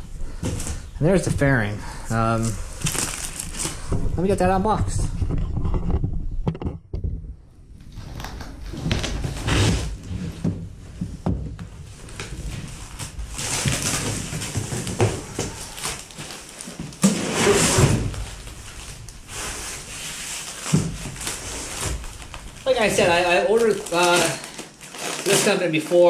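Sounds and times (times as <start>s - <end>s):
packaging rustling and scraping: 2.1s - 6.7s, 7.8s - 26.0s.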